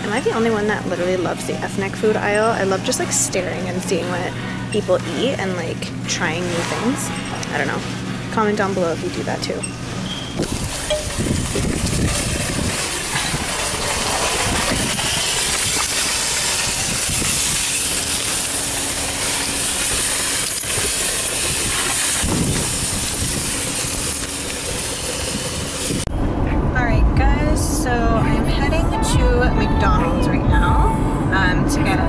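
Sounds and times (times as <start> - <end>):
shopping cart wheels rolling: 0.0 - 26.1.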